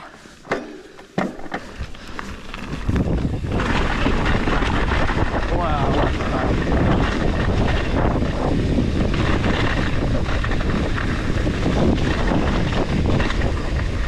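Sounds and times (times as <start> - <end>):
bike chain rattling: 1.1 - 14.0
wind buffeting microphone: 1.7 - 14.0.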